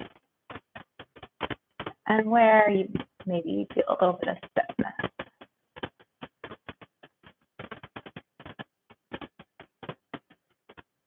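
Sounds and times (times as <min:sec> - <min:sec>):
faint irregular clicks and taps: 0:00.0 - 0:11.0.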